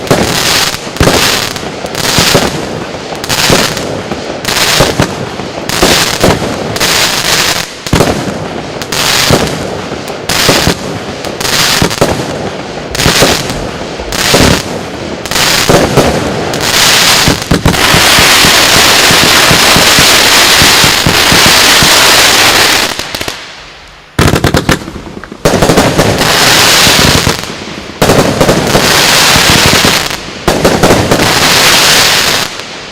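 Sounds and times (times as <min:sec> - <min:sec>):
firework crackling: 0:00.0 - 0:32.9
firework shots: 0:00.0 - 0:32.9.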